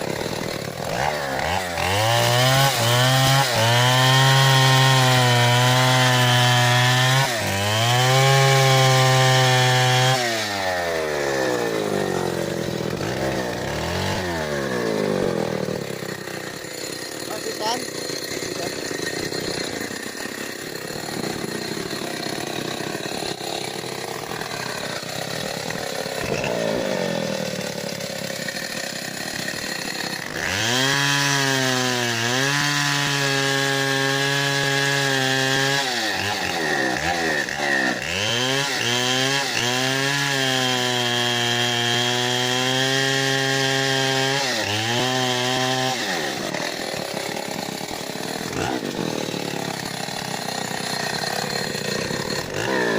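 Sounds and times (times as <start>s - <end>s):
chainsaw engine revving: 0.0s - 52.9s.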